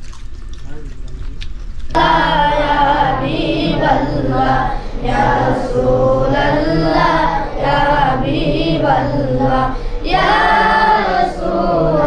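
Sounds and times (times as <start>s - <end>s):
voices singing in chorus: 1.9s - 12.0s.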